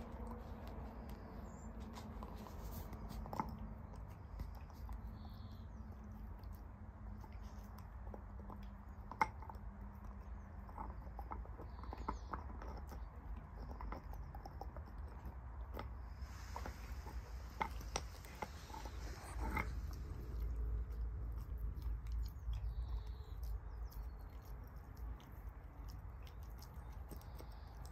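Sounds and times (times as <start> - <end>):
dog gnawing on bone: 0.0 - 27.9.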